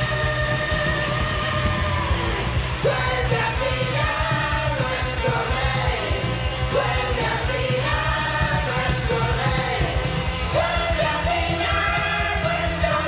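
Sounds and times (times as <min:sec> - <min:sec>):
rock song with singer and band: 0:00.0 - 0:13.0.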